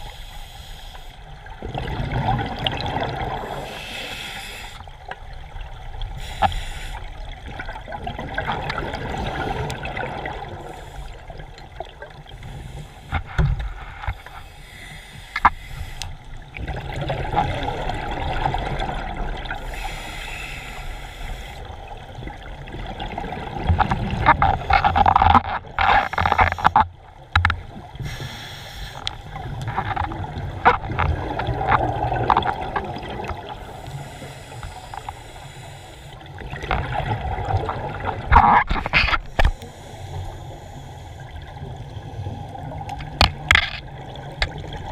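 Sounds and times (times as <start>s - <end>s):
underwater bubbles gurgling: 0.0s - 44.9s.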